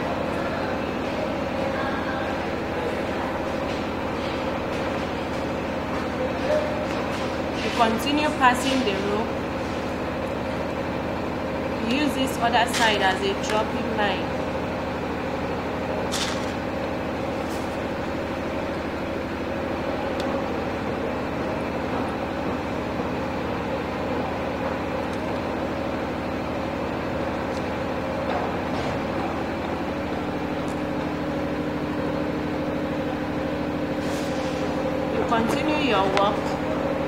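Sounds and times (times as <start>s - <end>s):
motor humming: 0.0s - 37.0s.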